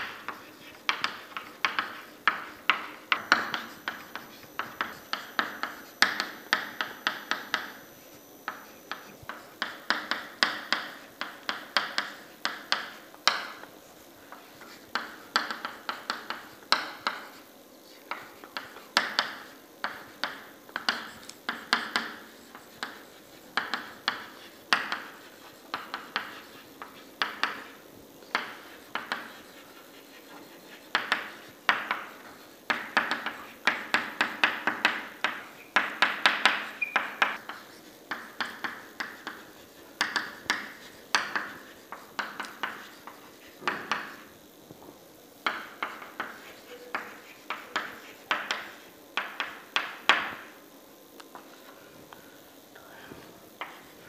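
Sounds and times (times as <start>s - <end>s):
chalk tapping on chalkboard: 0.0s - 44.3s, 45.4s - 50.6s, 53.6s - 54.0s.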